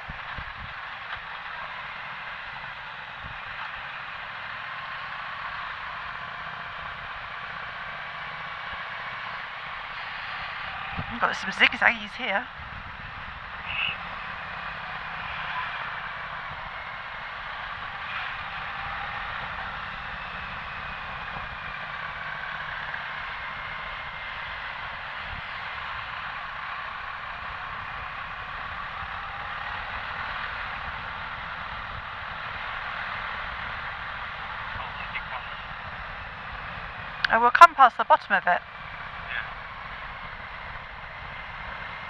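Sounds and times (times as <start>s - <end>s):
motorcycle engine running: 0.0s - 37.8s, 38.6s - 42.0s
wind and road noise: 0.0s - 42.0s.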